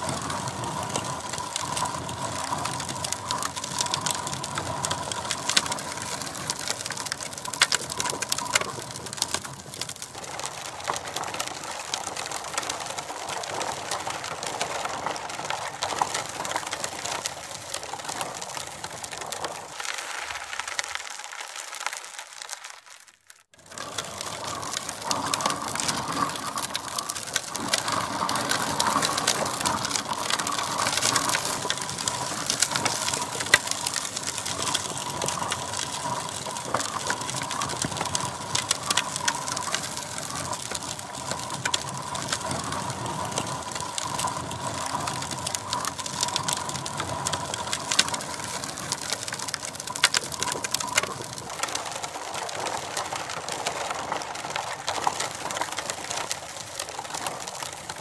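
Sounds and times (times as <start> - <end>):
plastic wheels rolling on gravel: 0.0 - 58.0
stones clicking against wheels: 0.0 - 58.0.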